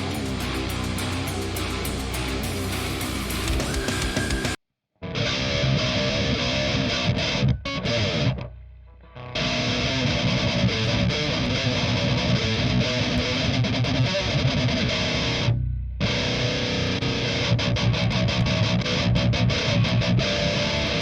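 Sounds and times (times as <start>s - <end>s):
distorted electric guitar riff: 0.0s - 21.0s.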